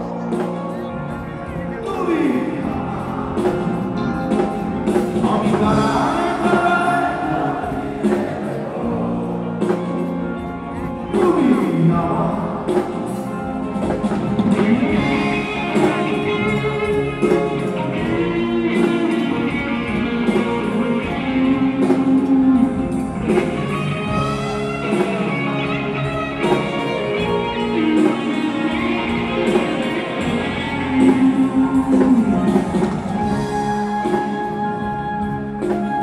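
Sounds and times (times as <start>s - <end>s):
guitar: 0.0s - 36.0s
live band music through pa: 0.0s - 36.0s.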